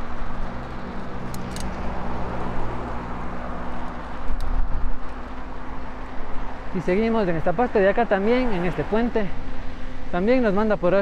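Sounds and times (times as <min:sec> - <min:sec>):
continuous rushing noise: 0:00.0 - 0:11.0
vehicle engine hum: 0:00.0 - 0:11.0.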